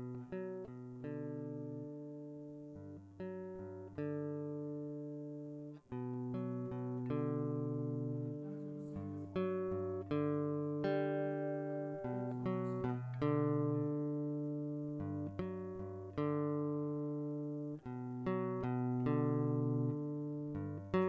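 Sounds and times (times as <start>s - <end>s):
acoustic guitar slow piece: 0.0s - 21.0s.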